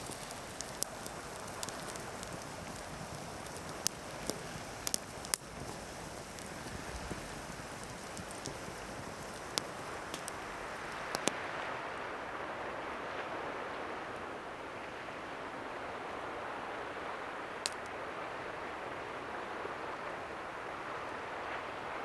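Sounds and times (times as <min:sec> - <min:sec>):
campfire crackling and popping: 0:00.0 - 0:22.0
ocean surf: 0:00.0 - 0:22.0.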